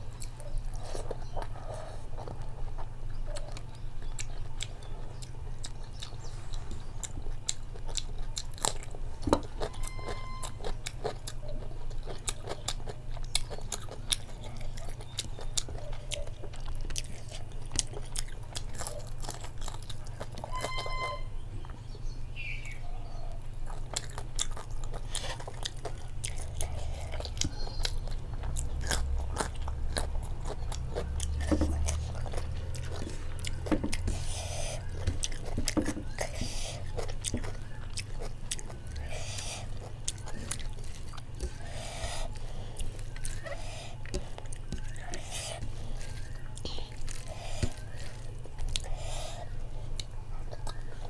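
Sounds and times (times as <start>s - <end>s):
chewing and crunching food: 0.0s - 51.0s
steady low hum: 0.0s - 51.0s.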